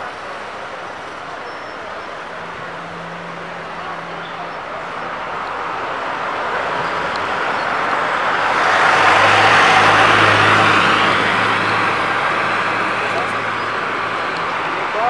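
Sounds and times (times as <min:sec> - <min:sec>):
bus passing close: 0:00.0 - 0:15.0
street traffic: 0:00.0 - 0:15.0.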